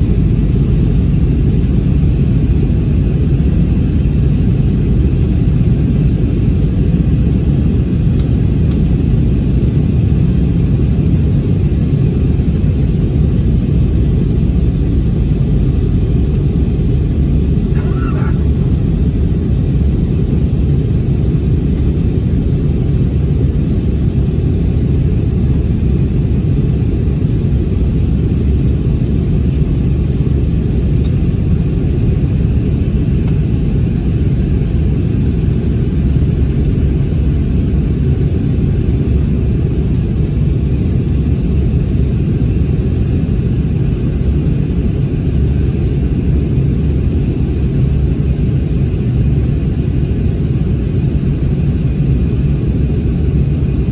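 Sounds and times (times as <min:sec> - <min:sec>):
jet engines and airflow rumble: 0:00.0 - 0:53.9.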